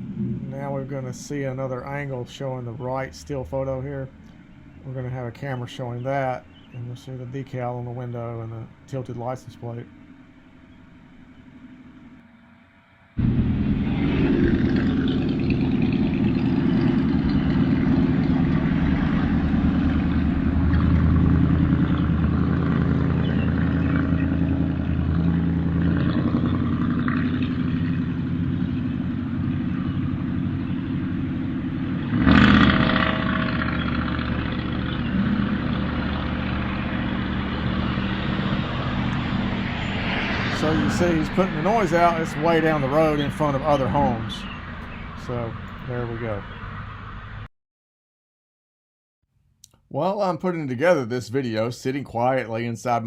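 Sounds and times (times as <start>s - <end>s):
engine and exhaust rumbling: 0.0s - 47.5s.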